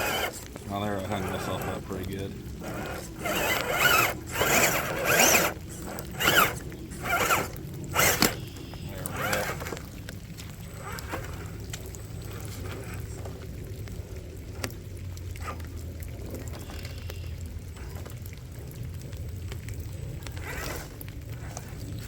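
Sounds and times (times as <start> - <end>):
tyres clicking and scraping on rocks: 0.0 - 13.6, 14.5 - 22.0
steady low rumble: 0.0 - 22.0.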